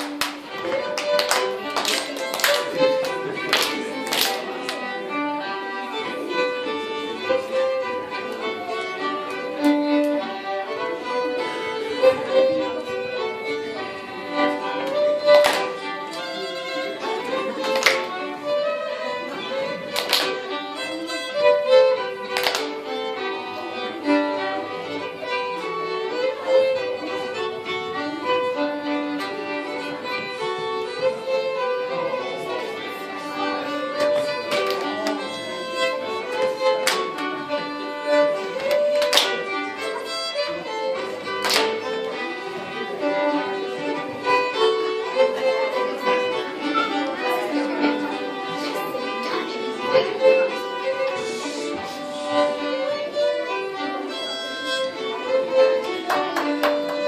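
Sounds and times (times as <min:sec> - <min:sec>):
fiddle folk dance music: 0:00.0 - 0:57.0.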